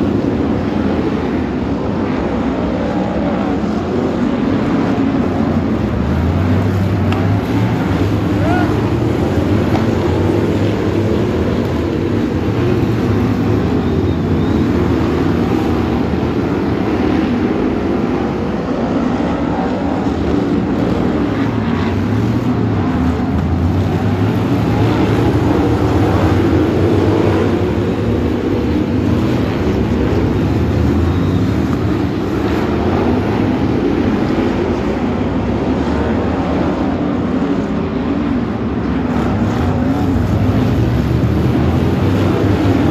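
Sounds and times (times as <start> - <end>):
racing car engines: 0.0 - 42.9.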